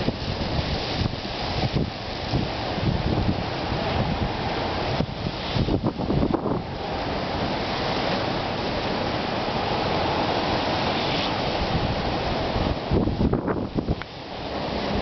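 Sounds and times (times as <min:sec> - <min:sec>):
wind blowing through storm: 0:00.0 - 0:15.0
wind gusts buffeting microphone: 0:00.0 - 0:15.0.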